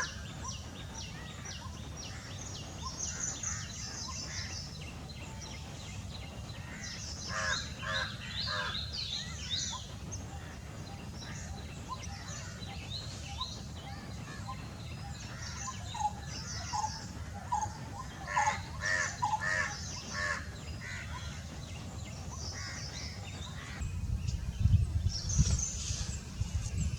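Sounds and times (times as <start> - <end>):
birds chirping and trilling: 0.0 - 26.9.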